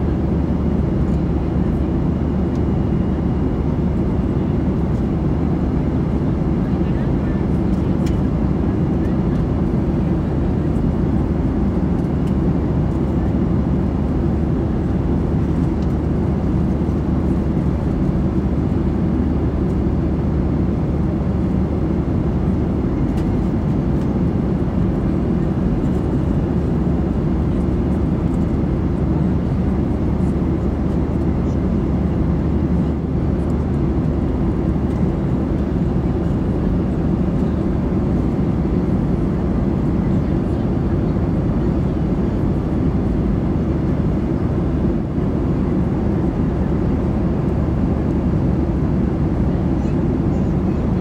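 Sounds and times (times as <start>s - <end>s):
airplane cabin noise: 0.0s - 51.0s.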